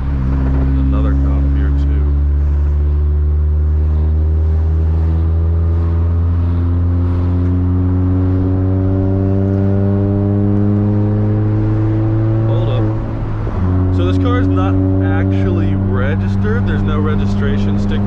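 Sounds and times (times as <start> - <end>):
car engine drone revving up: 0.0 - 18.0.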